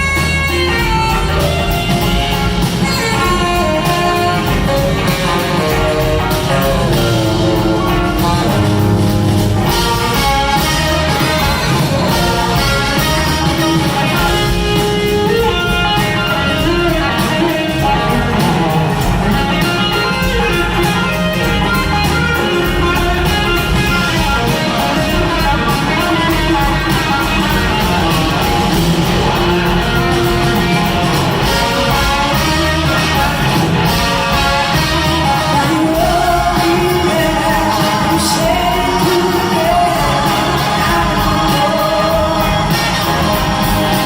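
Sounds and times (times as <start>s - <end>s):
electric guitar line: 0.0s - 44.0s
live rock band playing: 0.0s - 44.0s.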